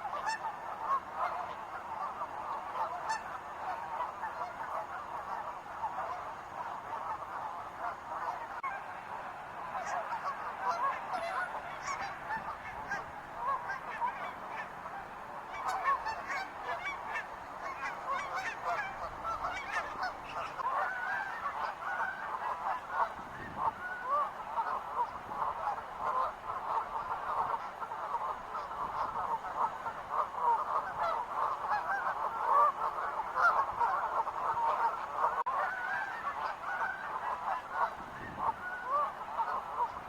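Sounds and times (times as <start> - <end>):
geese honking: 0.0 - 40.0.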